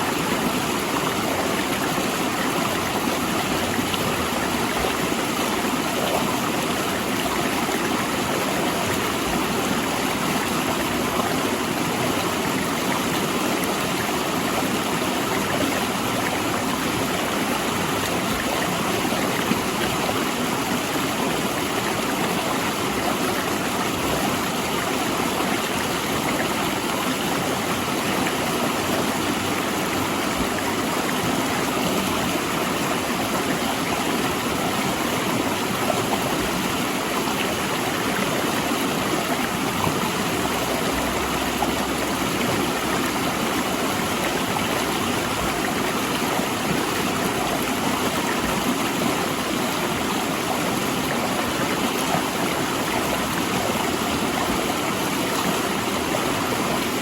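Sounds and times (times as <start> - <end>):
river rushing between rocks: 0.0 - 57.0.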